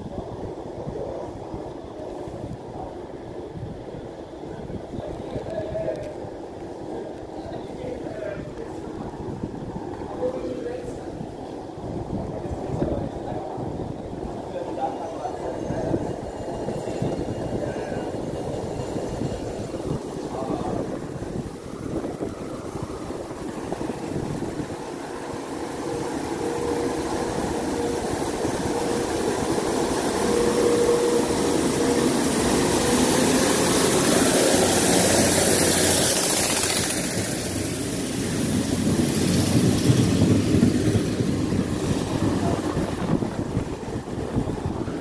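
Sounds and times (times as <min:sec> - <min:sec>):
train passing: 0:00.0 - 0:45.0.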